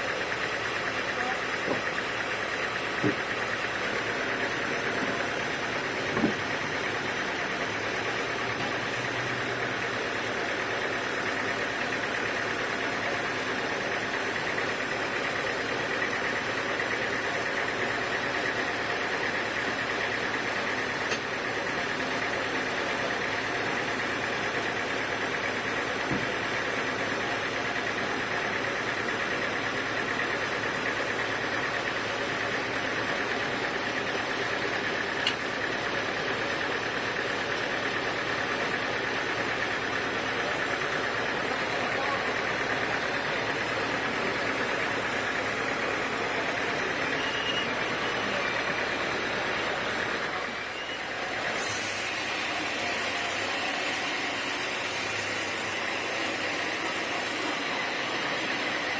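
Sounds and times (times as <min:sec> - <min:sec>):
sawmill machinery drone: 0:00.0 - 0:58.9.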